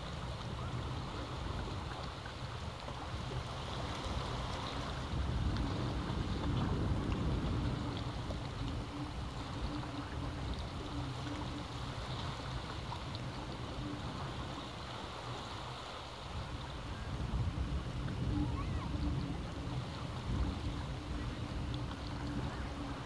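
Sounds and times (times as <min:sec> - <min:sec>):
waves washing against rocks: 0:00.0 - 0:23.0.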